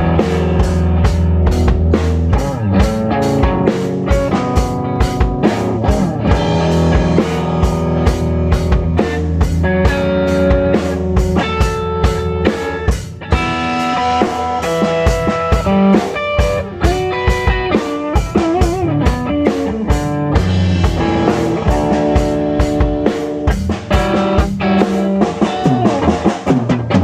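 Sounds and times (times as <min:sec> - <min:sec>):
bass guitar: 0:00.0 - 0:27.0
drum kit beat: 0:00.0 - 0:27.0
electric guitar: 0:00.0 - 0:27.0.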